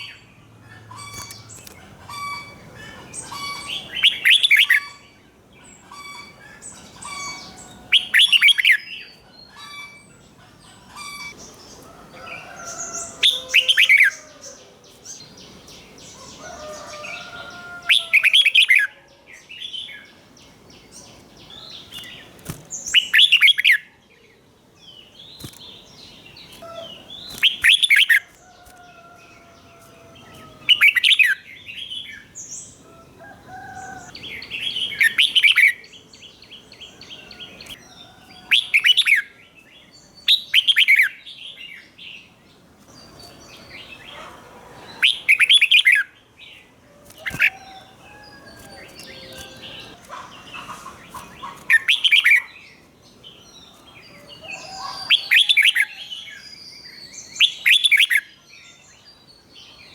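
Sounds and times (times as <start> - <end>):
soft bird chirps and calls: 0.0 - 59.9.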